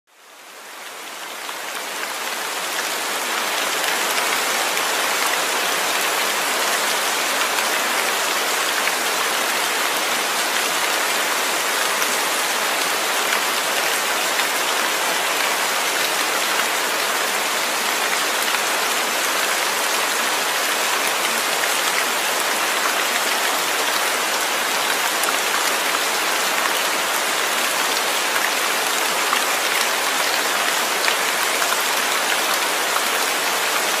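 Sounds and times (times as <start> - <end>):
rain patter: 0.1 - 34.0.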